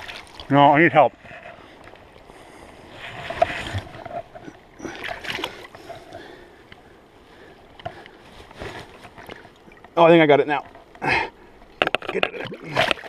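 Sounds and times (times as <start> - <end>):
river water splashing: 0.0 - 13.0.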